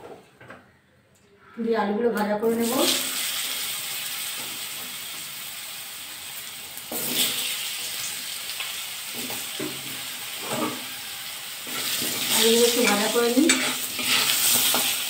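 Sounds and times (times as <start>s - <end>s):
potato wedges sizzling in oil: 2.5s - 15.0s.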